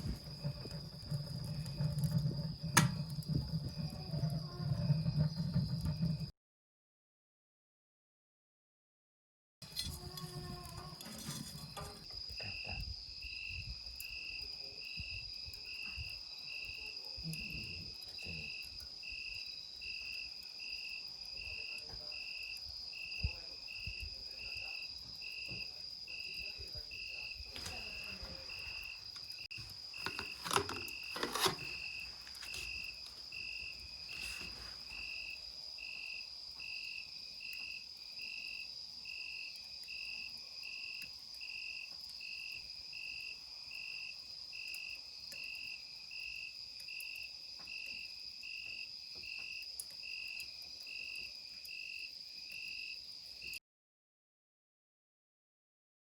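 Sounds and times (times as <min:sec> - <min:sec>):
insect chirping: 0:00.0 - 0:06.3, 0:09.9 - 0:53.6.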